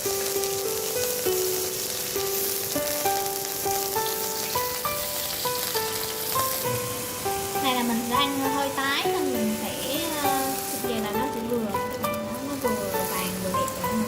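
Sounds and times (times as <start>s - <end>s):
background music melody: 0.0s - 14.0s
beef sizzling in oil: 0.0s - 14.0s.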